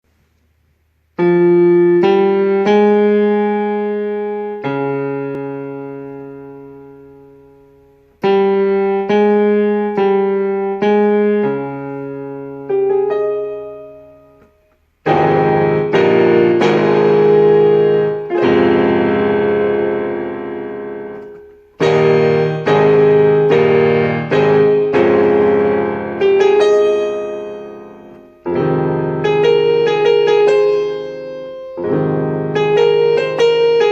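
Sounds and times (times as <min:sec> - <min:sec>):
slow piano ballad: 0:01.2 - 0:33.9.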